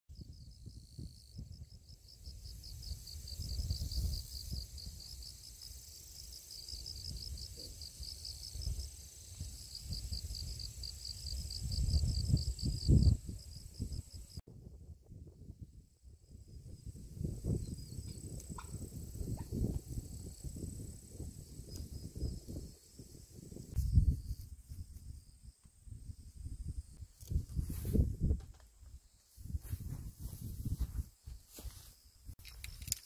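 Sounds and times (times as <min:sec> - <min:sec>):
wind rumbling on microphone: 0:00.1 - 0:05.9, 0:06.6 - 0:33.0
insects chirping: 0:00.2 - 0:14.4, 0:15.6 - 0:33.0.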